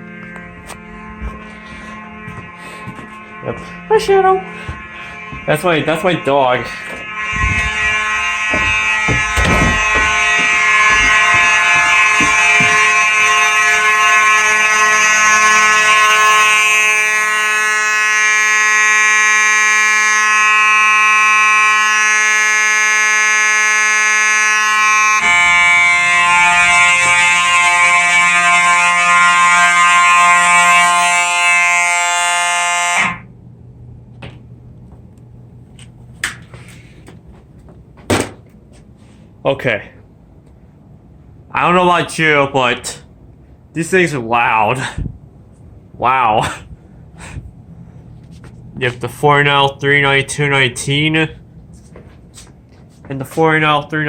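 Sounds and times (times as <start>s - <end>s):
mechanical fire alarm horns blaring: 0.0s - 34.0s, 38.6s - 54.0s.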